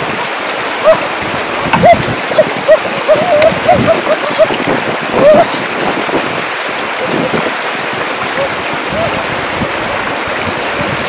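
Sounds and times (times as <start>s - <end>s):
feet wading and splashing: 0.0s - 11.0s
stream water rushing and gurgling: 0.0s - 11.0s.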